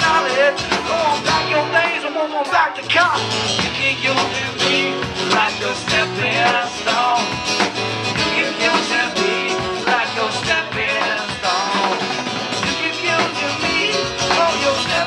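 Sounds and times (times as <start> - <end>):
person singing: 0.0 - 7.5, 8.2 - 15.0
acoustic guitar strummed: 0.0 - 15.0
drum kit: 0.0 - 15.0.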